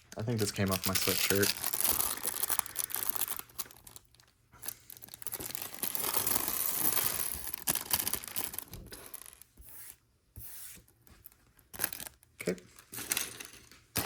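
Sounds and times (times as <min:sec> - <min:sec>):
plastic bags crinkling and tearing: 0:00.1 - 0:09.4, 0:11.7 - 0:14.0.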